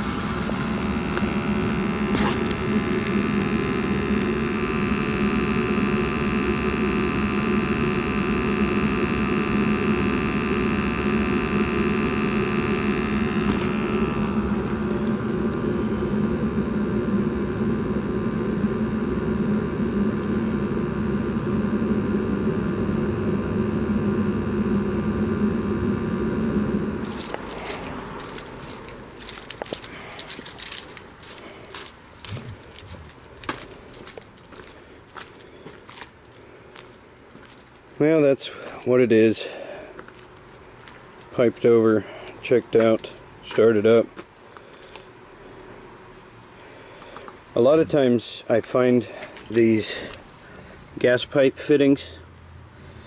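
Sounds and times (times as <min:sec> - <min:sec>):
heating unit humming: 0:00.0 - 0:53.0.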